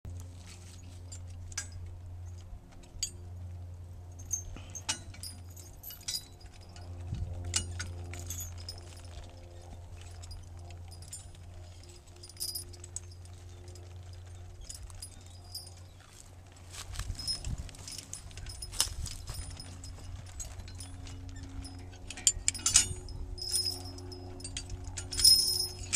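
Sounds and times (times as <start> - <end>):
steady low hum: 0.1 - 25.9
metal harness clinking: 0.3 - 3.4, 4.1 - 25.9.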